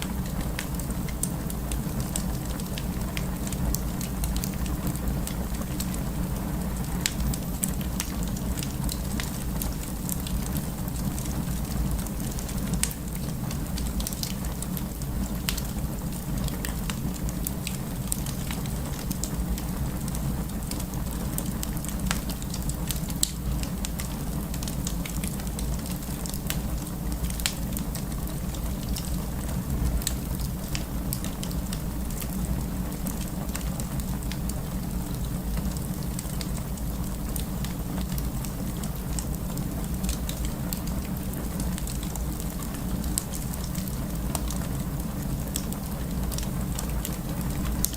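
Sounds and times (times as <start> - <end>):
fire crackling and popping: 0.0 - 47.9
low rumble of flames: 0.0 - 47.9.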